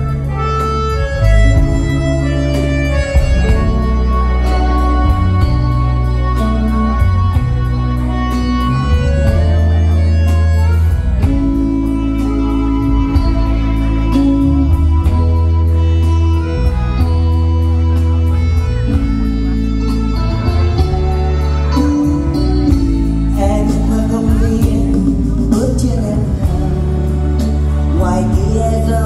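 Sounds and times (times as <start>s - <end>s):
bass line: 0.0s - 29.0s
electric guitar: 0.0s - 29.0s
keyboard: 0.0s - 29.0s
live band playing instrumental: 0.0s - 29.0s.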